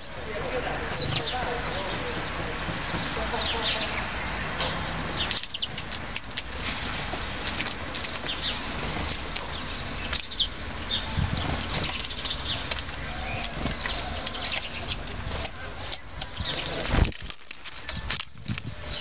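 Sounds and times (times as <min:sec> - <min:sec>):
small songbirds chirping: 0:00.0 - 0:17.1
wings fluttering: 0:00.4 - 0:02.2, 0:04.6 - 0:19.0.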